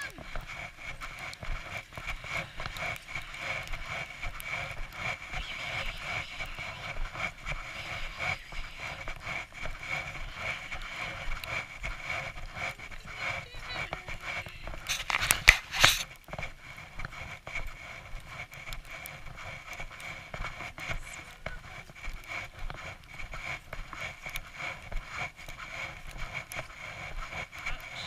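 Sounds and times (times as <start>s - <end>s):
footsteps crunching in snow: 0.0s - 28.0s.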